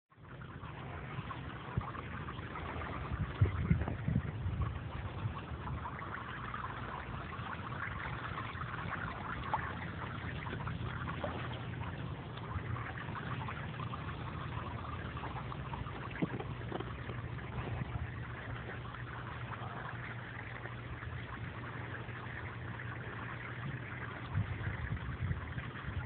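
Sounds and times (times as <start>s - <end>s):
low rumble: 0.3s - 26.0s
sprinkler water spraying and splashing: 0.4s - 26.0s.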